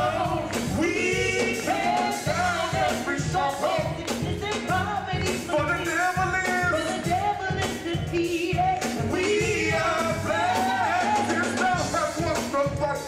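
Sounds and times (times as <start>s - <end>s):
group singing gospel song: 0.0s - 12.8s
live instruments with steady beat: 0.0s - 13.0s.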